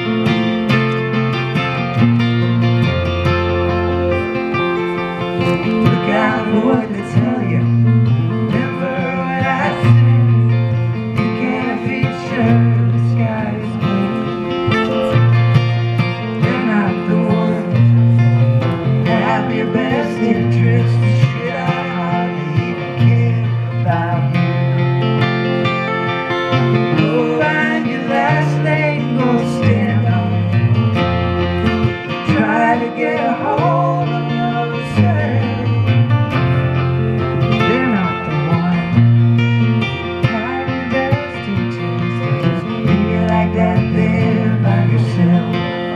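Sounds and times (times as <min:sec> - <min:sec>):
acoustic guitar: 0:00.0 - 0:45.9
amplified guitar: 0:00.0 - 0:45.9
low bass notes: 0:00.0 - 0:45.9
person singing: 0:03.3 - 0:30.9, 0:31.7 - 0:45.9.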